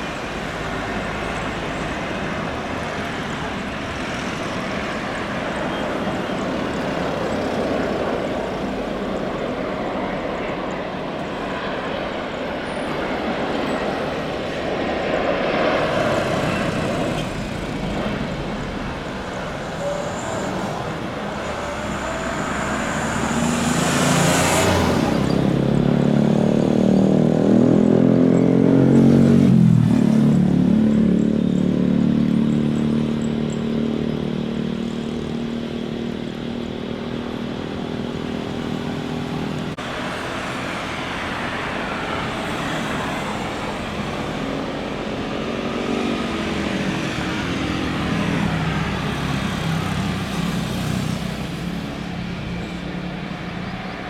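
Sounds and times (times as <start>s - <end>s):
jet airliner passing overhead: 0.0s - 54.0s.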